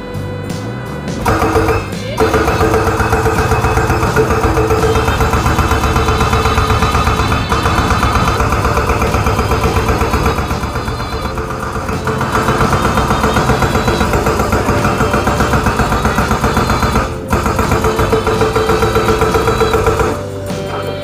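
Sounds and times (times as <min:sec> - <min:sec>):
excavator engine running: 0:00.0 - 0:21.0
hydraulic rock breaker pounding: 0:01.2 - 0:20.8.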